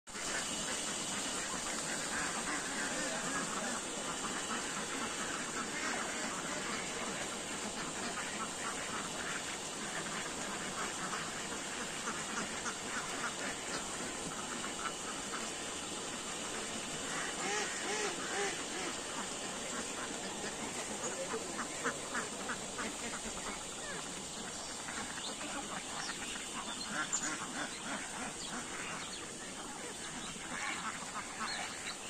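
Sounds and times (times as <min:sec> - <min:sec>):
ducks quacking: 0:00.1 - 0:32.0.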